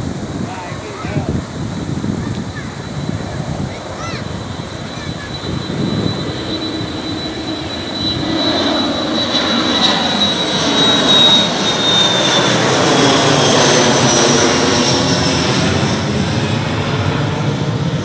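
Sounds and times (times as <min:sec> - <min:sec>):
jet airliner passing overhead: 0:00.0 - 0:18.0
high engine whine falling in pitch: 0:02.4 - 0:18.0.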